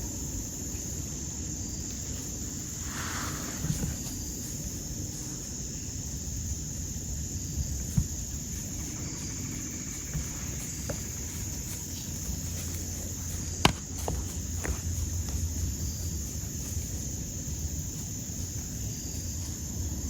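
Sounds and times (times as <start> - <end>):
crickets and insects droning: 0.0 - 20.0.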